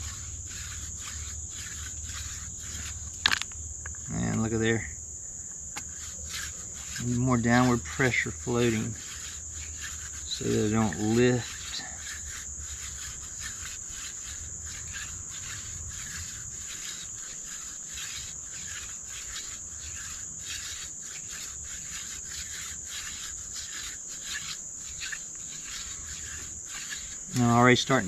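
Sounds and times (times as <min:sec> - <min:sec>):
hand-drill spindle rubbing on wood: 0:00.0 - 0:04.8, 0:05.7 - 0:28.0
crickets chirring: 0:00.0 - 0:28.0.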